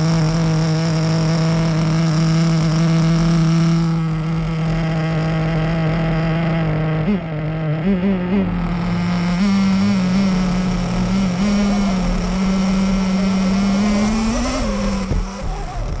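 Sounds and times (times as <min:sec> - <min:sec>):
small rc car engine revving: 0:00.0 - 0:16.0.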